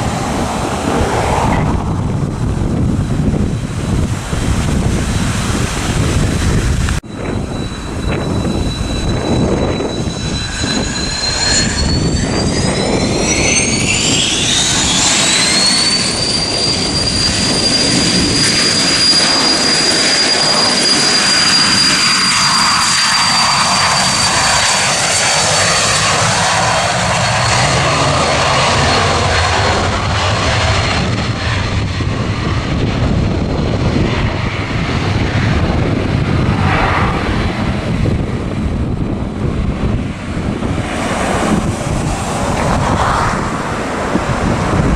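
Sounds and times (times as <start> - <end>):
jet engines spooling up: 0.0 - 44.9
wind buffeting microphone: 0.0 - 44.9.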